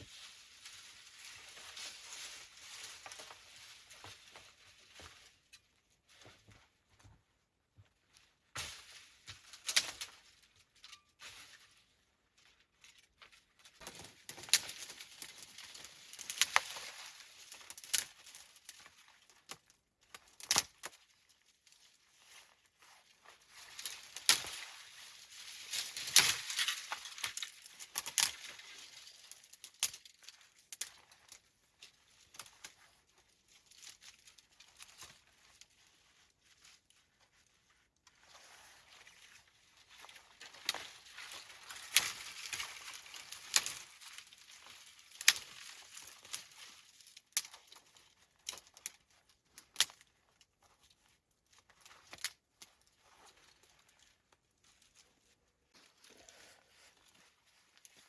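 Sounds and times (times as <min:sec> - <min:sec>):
rustling and crinkling: 0:00.0 - 0:58.0.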